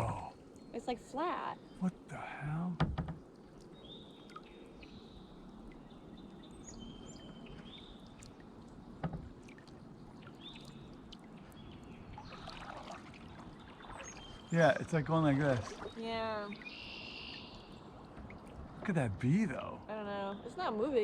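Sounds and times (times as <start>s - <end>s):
water lapping against hull: 0.0s - 0.8s, 1.4s - 21.0s.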